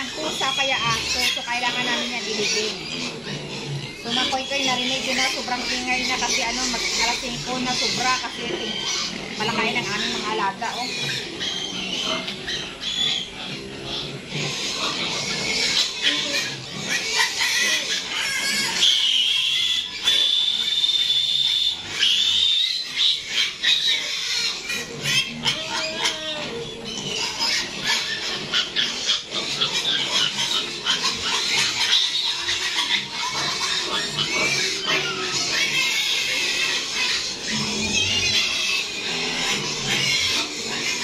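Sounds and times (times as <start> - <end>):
piglets squealing: 0.0 - 41.0.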